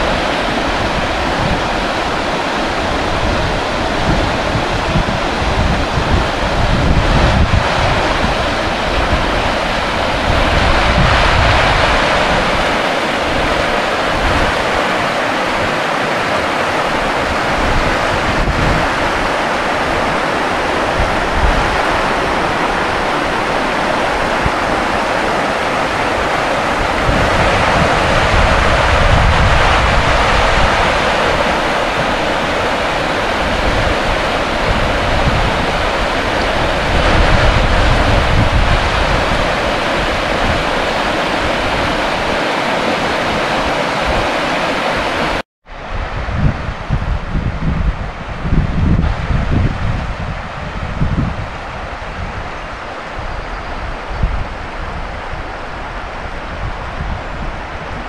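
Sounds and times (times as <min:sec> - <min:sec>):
flowing water rushing: 0:00.0 - 0:58.0
wind buffeting microphone: 0:00.0 - 0:58.0.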